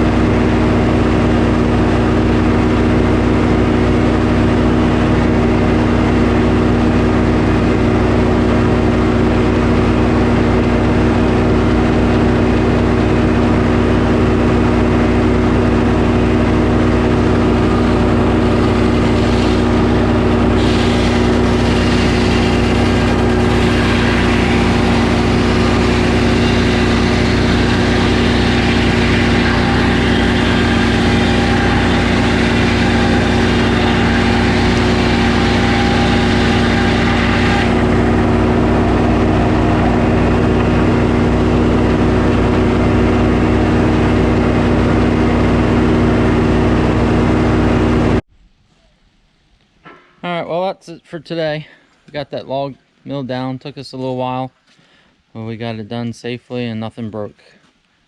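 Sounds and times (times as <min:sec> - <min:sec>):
sawmill engine running: 0:00.0 - 0:48.2.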